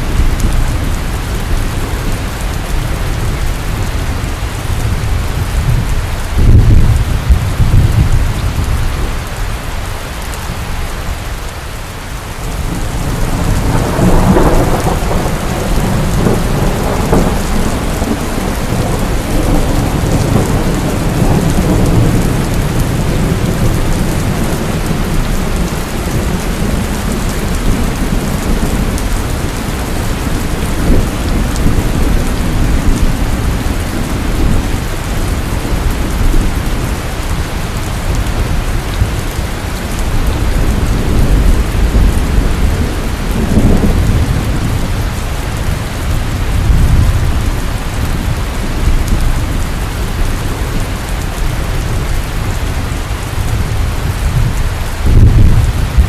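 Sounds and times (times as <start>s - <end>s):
thunder clap and rumble: 0.0s - 9.6s, 12.3s - 56.0s
heavy rain pouring: 0.0s - 56.0s.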